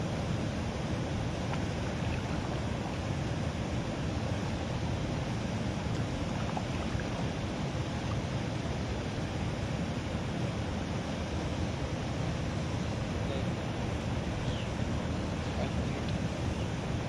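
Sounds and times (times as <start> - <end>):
water rushing from culvert: 0.0 - 17.0.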